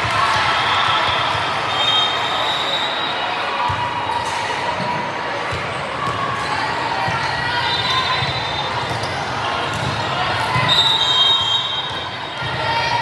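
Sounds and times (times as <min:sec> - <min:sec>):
crowd chatter: 0:00.0 - 0:13.0.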